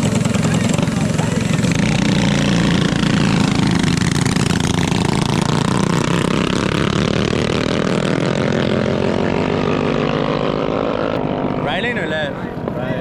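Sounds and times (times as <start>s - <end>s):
mini bike engines revving: 0.0s - 13.0s.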